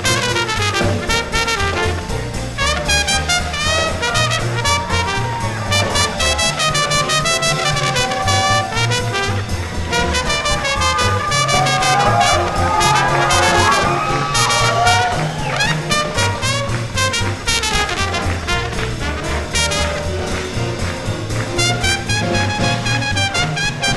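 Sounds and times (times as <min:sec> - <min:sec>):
swing band horns: 0:00.0 - 0:23.9
walking bass line: 0:00.0 - 0:23.9.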